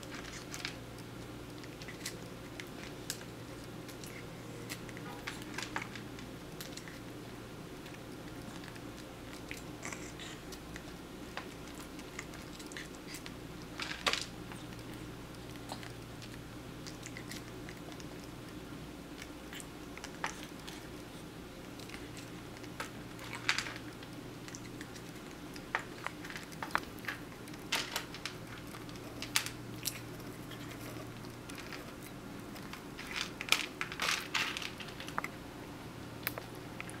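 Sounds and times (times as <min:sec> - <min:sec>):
kitten chewing: 0:00.0 - 0:35.4
faint hum: 0:00.0 - 0:37.0.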